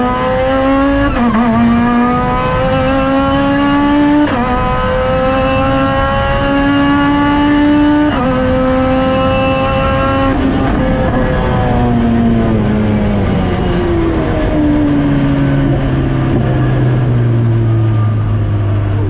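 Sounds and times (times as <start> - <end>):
car engine revving at full throttle: 0.0 - 19.0.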